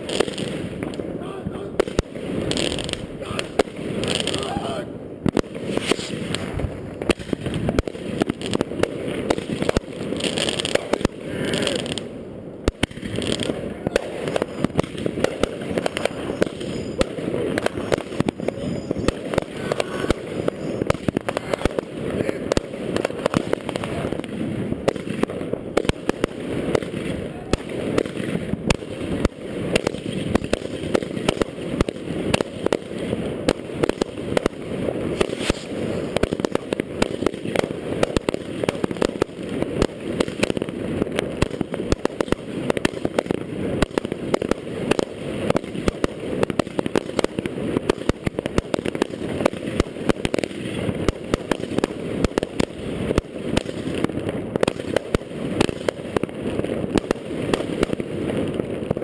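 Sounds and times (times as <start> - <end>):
fireworks and firecrackers banging: 0.0 - 59.0.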